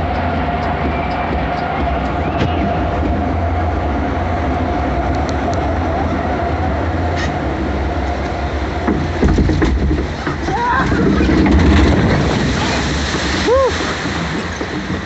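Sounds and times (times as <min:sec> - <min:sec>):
ride machinery rumbling: 0:00.0 - 0:15.0.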